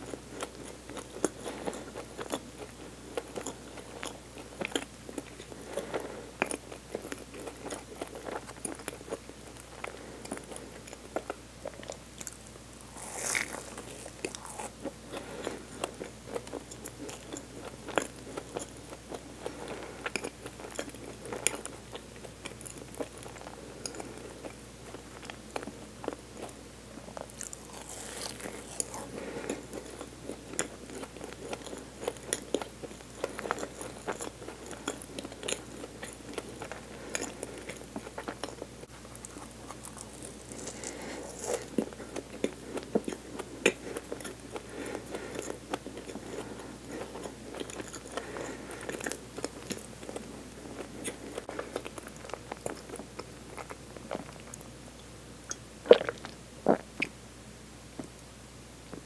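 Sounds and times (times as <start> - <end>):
close chewing of soft cake: 0.0 - 57.2.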